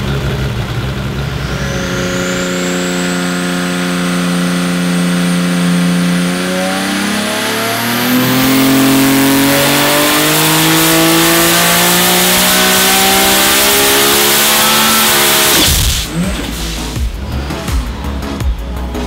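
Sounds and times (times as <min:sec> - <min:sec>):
engine revving at full load: 0:00.0 - 0:17.7.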